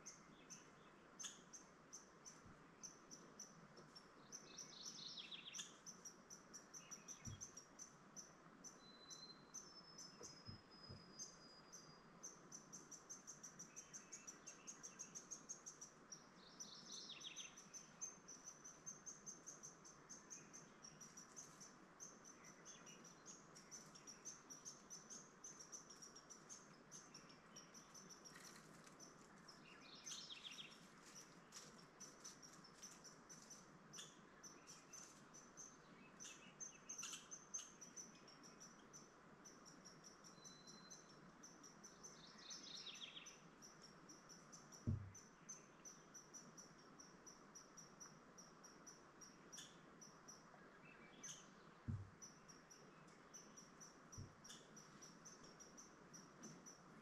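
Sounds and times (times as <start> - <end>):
bird calls: 0.0 - 46.9.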